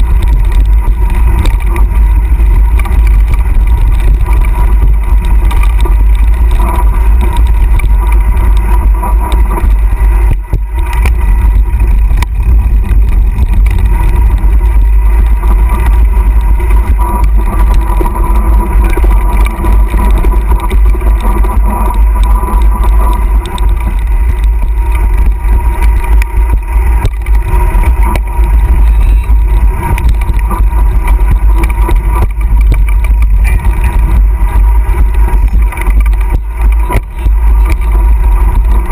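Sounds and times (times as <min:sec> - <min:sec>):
bike rattling over bumps: 0:00.0 - 0:38.9
wind buffeting microphone: 0:00.0 - 0:38.9.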